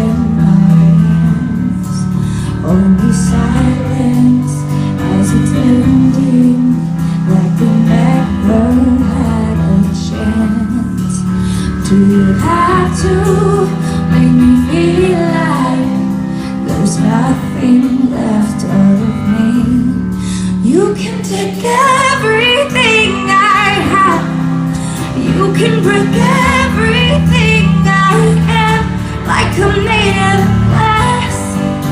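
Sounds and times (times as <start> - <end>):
instrumental accompaniment: 0.0 - 31.9
woman singing a ballad: 0.0 - 31.9.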